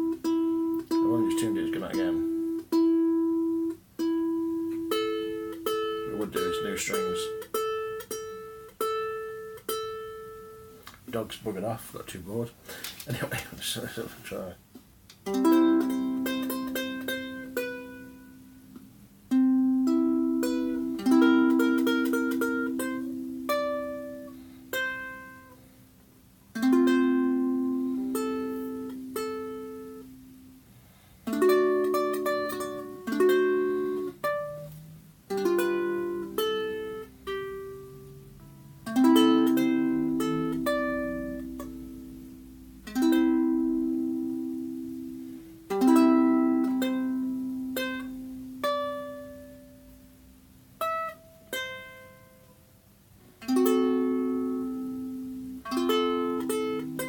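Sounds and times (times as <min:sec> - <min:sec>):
ukulele chords ringing: 0:00.0 - 0:12.4, 0:15.2 - 0:57.0.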